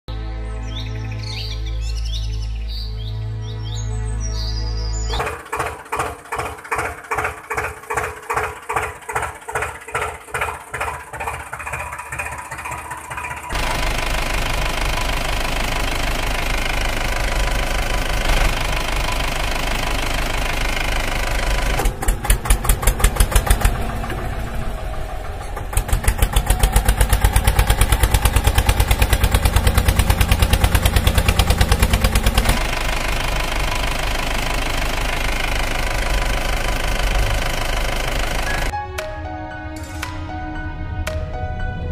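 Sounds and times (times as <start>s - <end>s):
diesel engine running: 5.1s - 38.7s.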